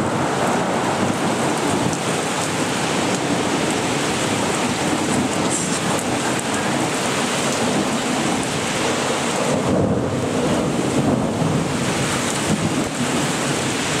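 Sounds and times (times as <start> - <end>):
thunder rumbling: 0.0 - 14.0
torrential rain: 0.0 - 14.0.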